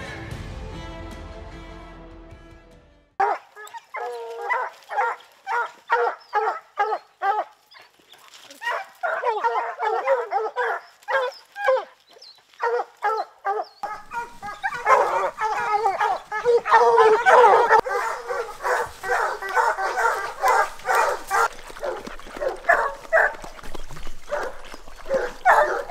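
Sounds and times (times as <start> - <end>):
dogs barking rapidly: 3.2 - 7.5, 8.6 - 11.9, 12.6 - 25.9.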